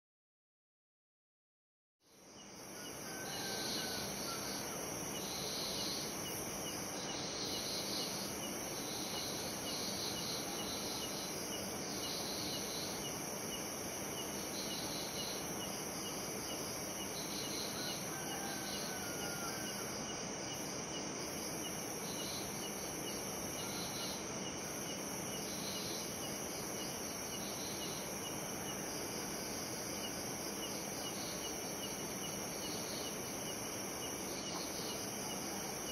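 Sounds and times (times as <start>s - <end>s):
crickets chirping: 2.0s - 35.9s.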